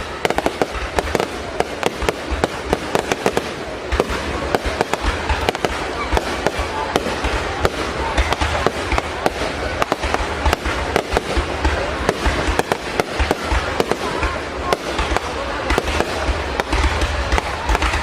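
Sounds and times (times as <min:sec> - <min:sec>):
fireworks bangs: 0:00.0 - 0:18.0
fireworks crackle: 0:00.0 - 0:18.0.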